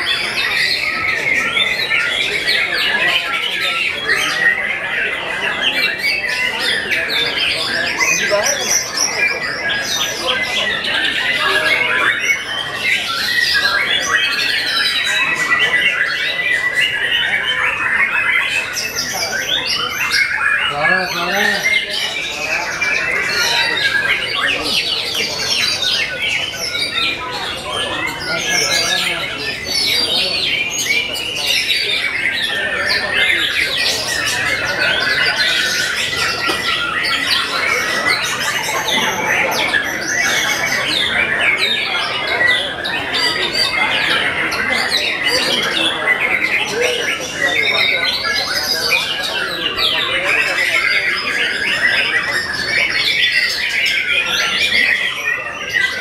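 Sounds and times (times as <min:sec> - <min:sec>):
birds singing in chorus: 0:00.0 - 0:56.0.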